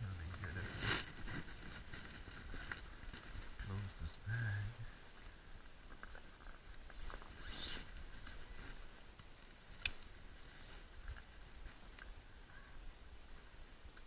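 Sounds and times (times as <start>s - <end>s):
faint rustling and handling: 0.0s - 13.8s.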